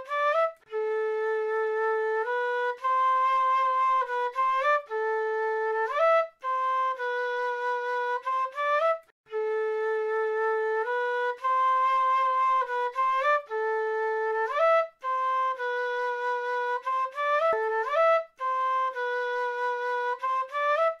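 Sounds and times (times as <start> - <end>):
flute playing a slow melody: 0.0 - 21.0.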